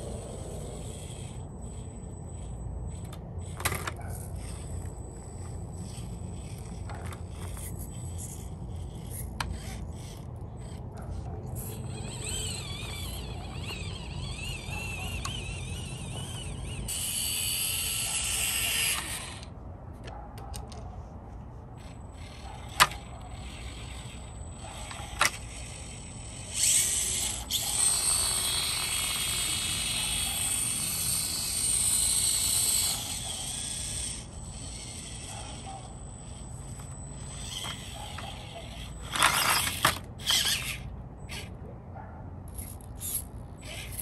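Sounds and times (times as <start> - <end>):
small electric motor whining: 0.0 - 19.6, 21.6 - 41.6, 42.5 - 44.0.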